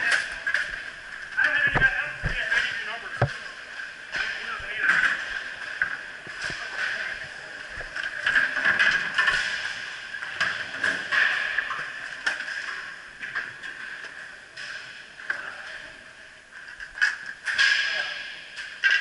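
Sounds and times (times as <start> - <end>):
indistinct rink hubbub: 0.0 - 19.0.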